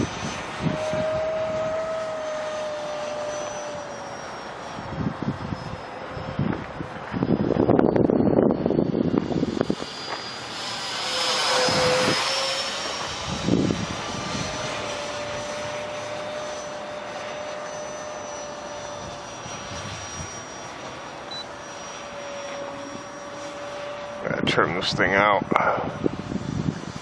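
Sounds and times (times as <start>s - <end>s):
jet ducted fan whining: 0.0s - 27.0s.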